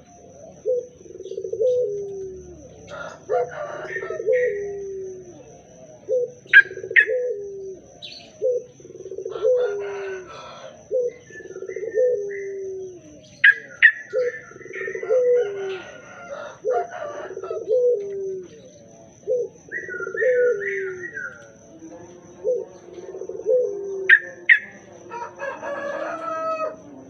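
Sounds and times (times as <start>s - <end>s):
bird chirping: 0.0s - 25.0s
low cooing call: 0.0s - 27.0s.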